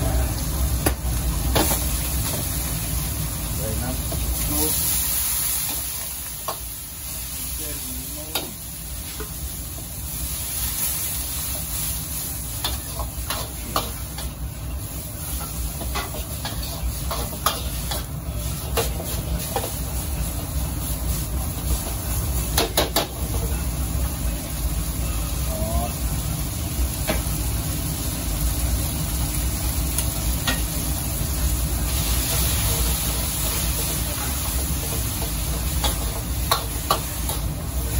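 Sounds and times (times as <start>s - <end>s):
noodles sizzling in a wok: 0.0s - 37.9s.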